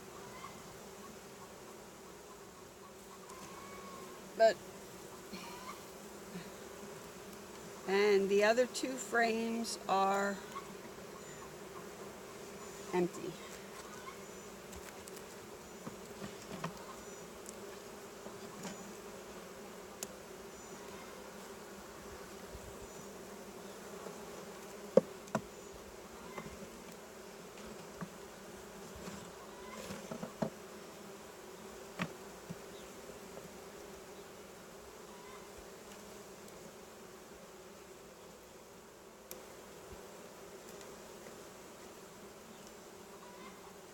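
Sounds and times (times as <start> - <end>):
honeybees buzzing: 0.0 - 43.9.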